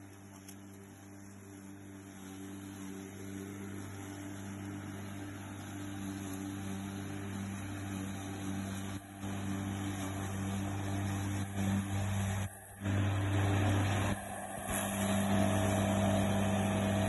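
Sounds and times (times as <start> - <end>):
electric lawn mower running: 0.0 - 17.0.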